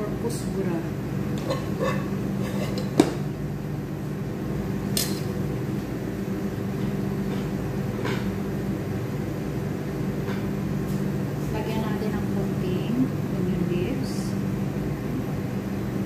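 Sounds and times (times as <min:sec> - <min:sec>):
electric appliance hum: 0:00.0 - 0:16.0.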